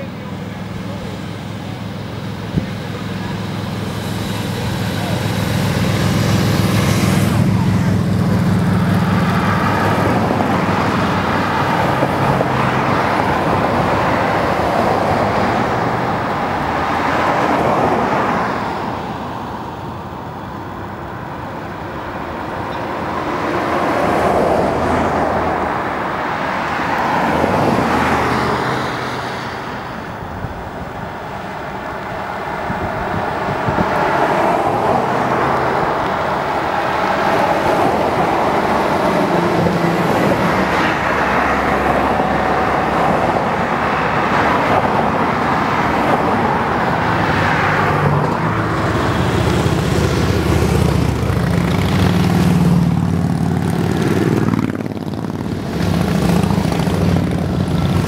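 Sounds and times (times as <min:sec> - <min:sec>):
cars driving past: 0:00.0 - 0:58.0.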